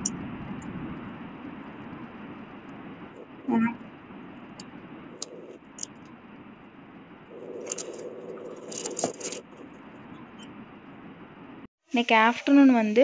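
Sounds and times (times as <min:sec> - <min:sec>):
faint steady buzz: 0:00.0 - 0:13.0.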